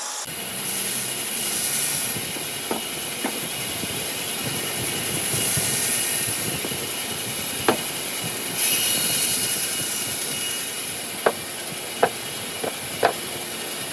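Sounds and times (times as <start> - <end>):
woodworking machine hiss: 0.0 - 13.9.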